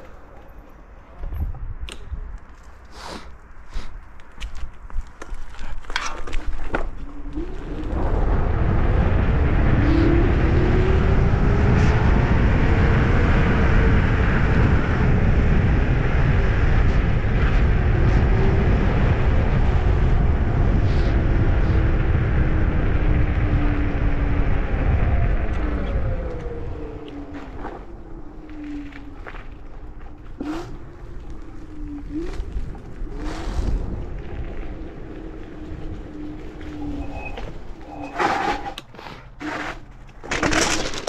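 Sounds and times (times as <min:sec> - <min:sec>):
wind on microphone: 0:01.2 - 0:02.4, 0:04.4 - 0:38.8.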